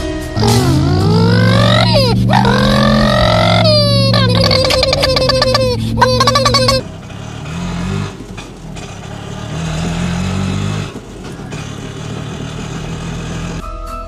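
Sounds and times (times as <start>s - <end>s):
auto-rickshaw engine revving: 0.0s - 13.6s.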